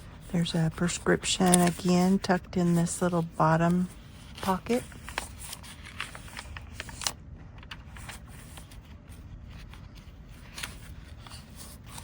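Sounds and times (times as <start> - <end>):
paper rustling and scraping: 0.0 - 12.0.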